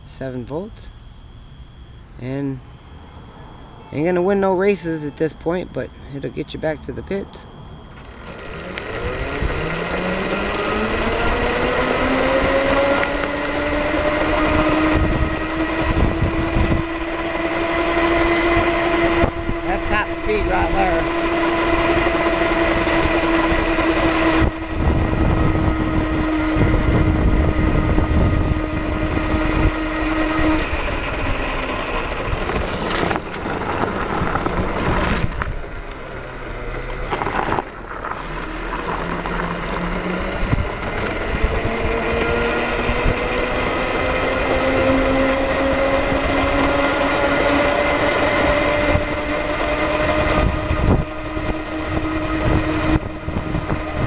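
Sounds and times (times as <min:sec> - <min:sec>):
electric motors whining: 0:00.5 - 0:54.0
rush of a moving ride: 0:02.2 - 0:54.0.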